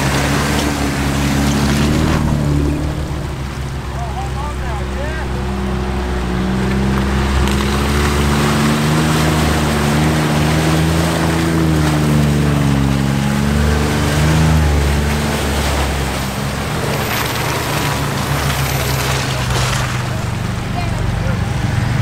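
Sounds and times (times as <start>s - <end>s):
road noise: 0.0s - 22.0s
vehicle engine running: 0.0s - 22.0s.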